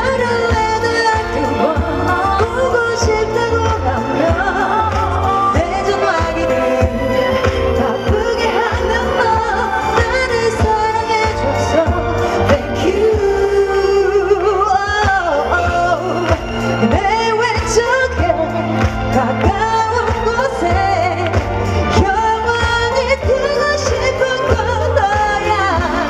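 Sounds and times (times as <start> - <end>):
backing music: 0.0 - 26.0
woman singing pop song: 0.0 - 26.0.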